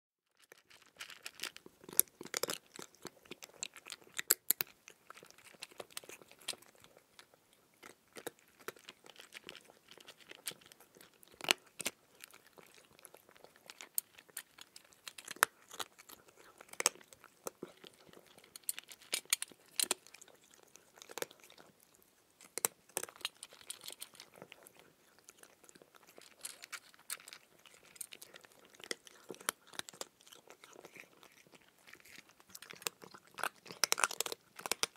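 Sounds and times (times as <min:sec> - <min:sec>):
crunching cucumber: 0:00.4 - 0:34.9.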